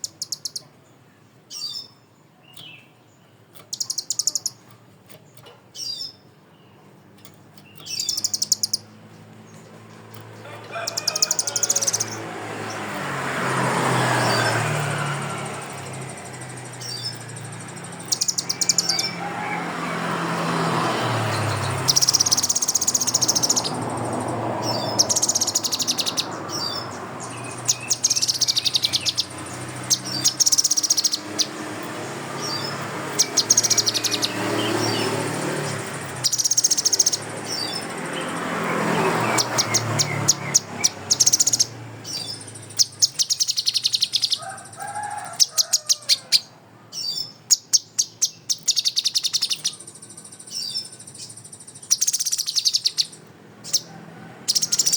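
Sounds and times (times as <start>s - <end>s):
songbird singing fast trills: 0.0s - 54.9s.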